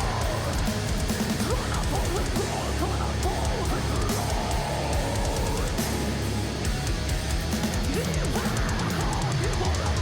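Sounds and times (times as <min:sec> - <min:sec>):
metal band playing live: 0:00.0 - 0:10.0.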